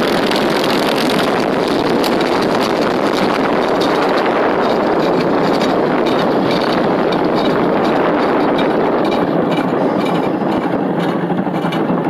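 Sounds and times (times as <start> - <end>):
truck engine road and wind noise: 0.0 - 12.0.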